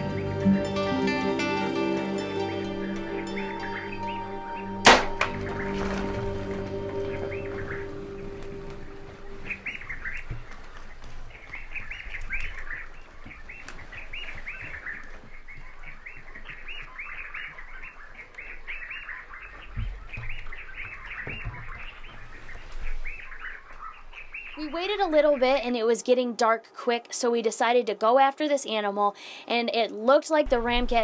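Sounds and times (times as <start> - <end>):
small birds chirping: 0.0 - 26.6.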